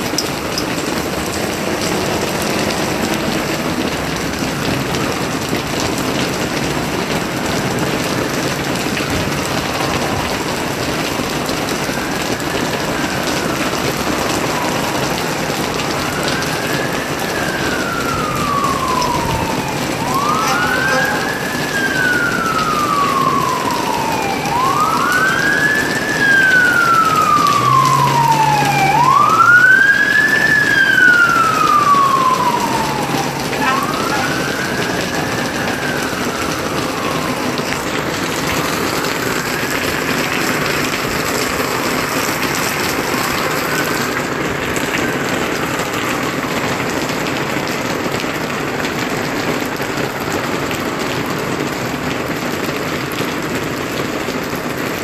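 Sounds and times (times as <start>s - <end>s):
emergency siren wailing: 0.0s - 55.0s
steady rain: 0.0s - 55.0s.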